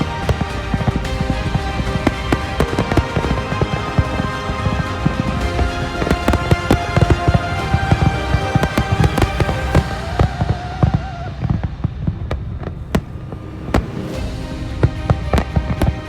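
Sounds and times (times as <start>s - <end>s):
fireworks bangs and crackles: 0.0s - 16.0s
music: 0.0s - 16.0s.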